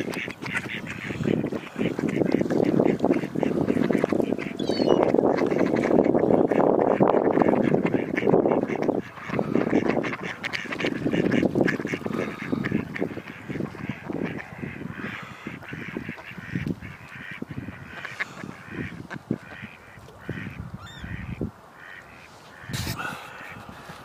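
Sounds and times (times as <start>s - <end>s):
waterbirds honking and quacking: 0.0s - 24.0s.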